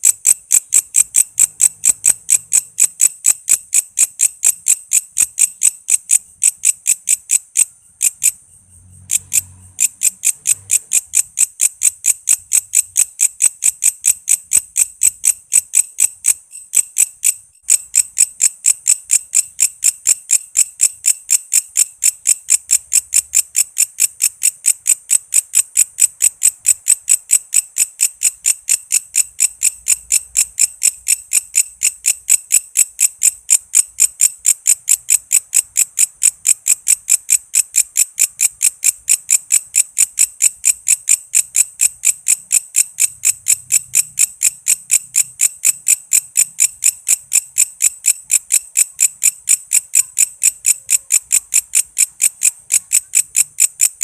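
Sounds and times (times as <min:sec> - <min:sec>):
katydid chirping: 0:00.0 - 0:54.0.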